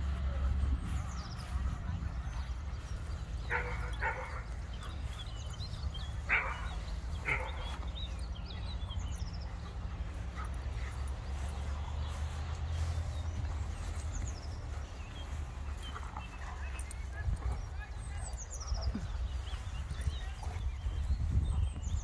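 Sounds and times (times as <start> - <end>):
dogs barking: 1.4 - 22.0.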